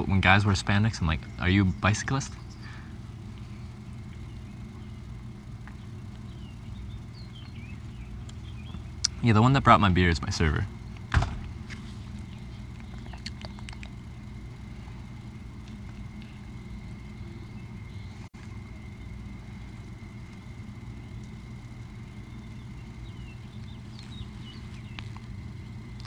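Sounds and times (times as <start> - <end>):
faint high whine: 0.0 - 26.0
low outdoor rumble: 0.0 - 26.0.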